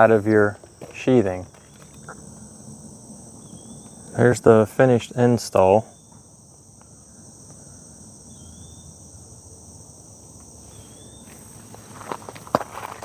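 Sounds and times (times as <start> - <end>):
crickets droning: 0.0 - 13.0
low outdoor background hum: 0.0 - 13.0.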